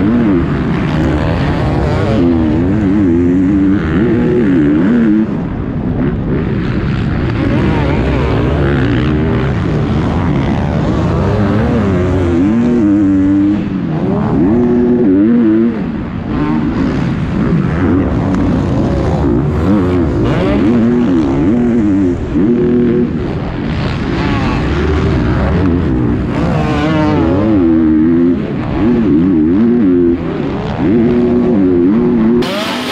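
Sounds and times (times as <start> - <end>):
motocross bike engine revving: 0.0 - 32.9
other dirt bikes: 0.0 - 32.9.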